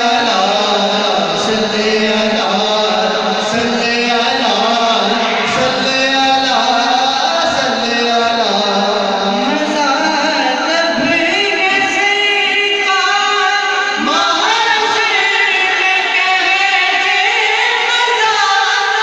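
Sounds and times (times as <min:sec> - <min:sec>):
men singing devotional song: 0:00.0 - 0:19.0.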